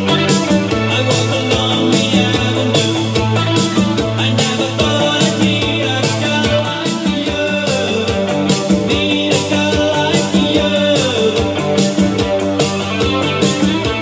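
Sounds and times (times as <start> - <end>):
song with guitar and beat: 0.0 - 14.0.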